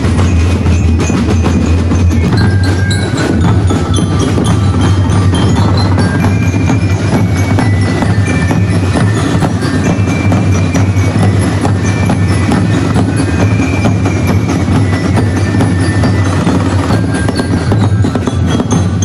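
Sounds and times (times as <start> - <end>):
high ringing tones: 0.0 - 19.0
street drum band playing: 0.0 - 19.0.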